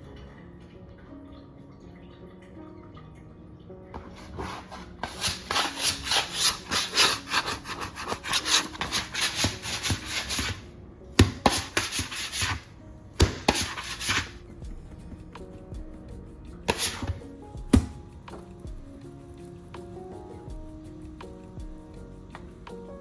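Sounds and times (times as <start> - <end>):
rhythmic rubbing on wooden board: 4.1 - 23.0.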